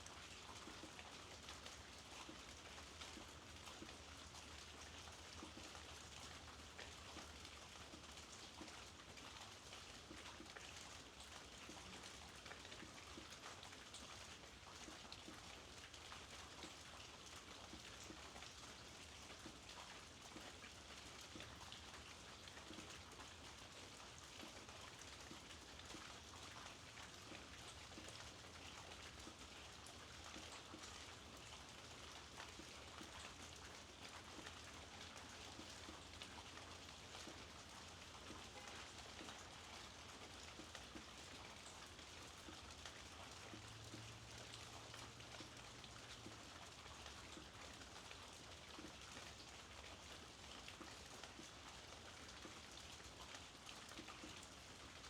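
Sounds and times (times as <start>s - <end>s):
faint steady rainfall: 0.0s - 55.0s.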